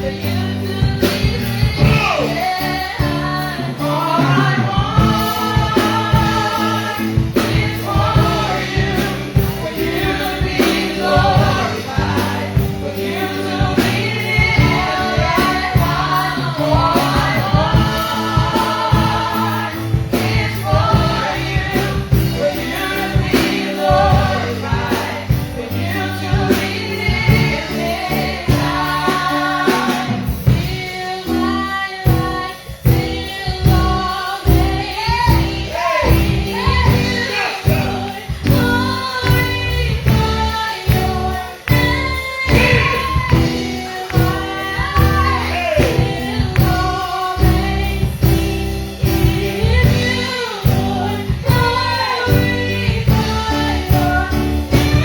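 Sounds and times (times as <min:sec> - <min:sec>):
band with steady beat: 0:00.0 - 0:55.0
voices singing gospel: 0:00.0 - 0:55.0.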